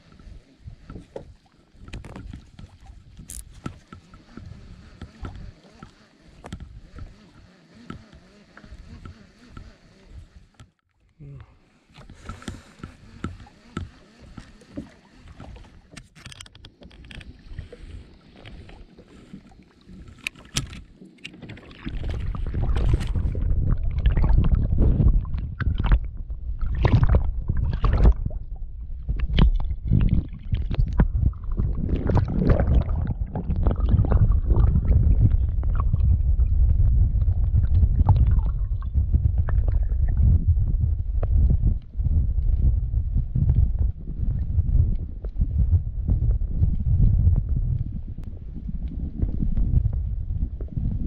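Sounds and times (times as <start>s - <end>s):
wind rumble on microphone: 0.0s - 10.6s, 12.0s - 51.0s
water splashing against hull: 0.0s - 10.8s, 11.6s - 51.0s.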